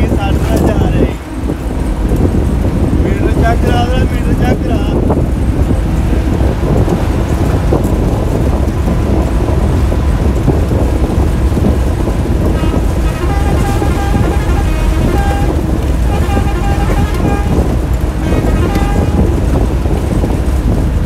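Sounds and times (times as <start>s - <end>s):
bus engine and road noise: 0.0s - 21.0s.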